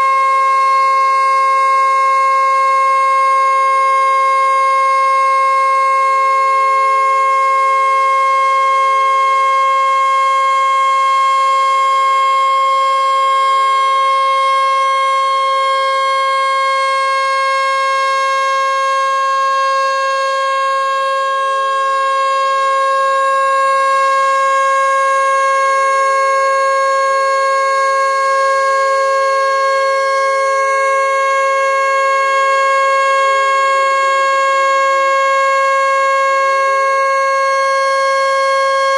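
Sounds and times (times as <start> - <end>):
electric motor siren wailing: 0.0 - 38.9.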